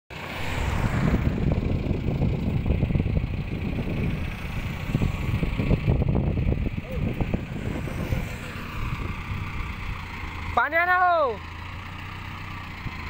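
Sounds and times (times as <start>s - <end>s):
tractor engine running: 0.1s - 13.0s.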